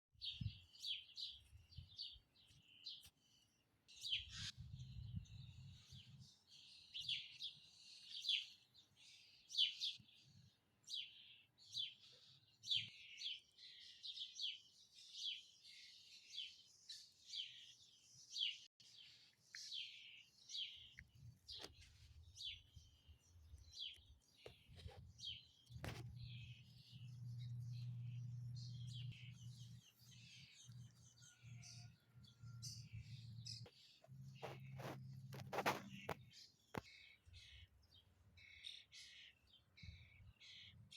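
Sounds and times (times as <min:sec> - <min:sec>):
small birds twittering: 0:00.2 - 0:40.9.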